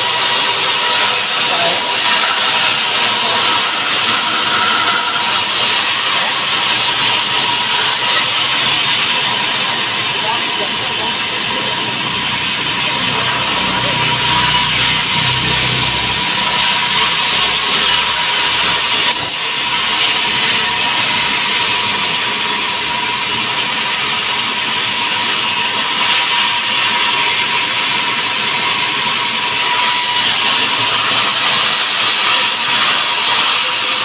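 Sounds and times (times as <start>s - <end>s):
band saw cutting log: 0.0s - 34.0s.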